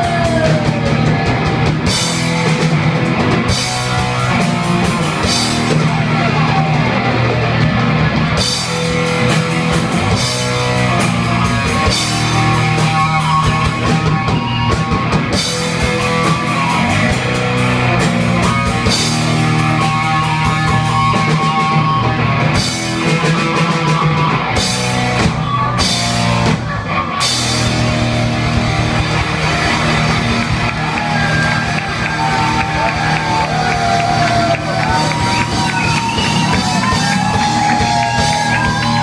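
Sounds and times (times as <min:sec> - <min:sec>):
heavy metal band playing: 0:00.0 - 0:39.0.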